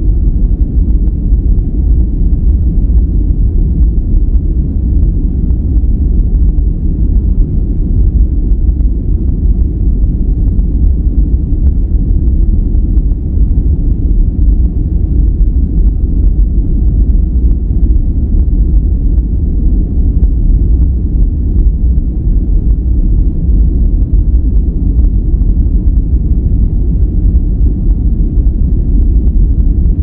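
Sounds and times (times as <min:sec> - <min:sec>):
deep rumbling brown noise: 0:00.0 - 0:30.0.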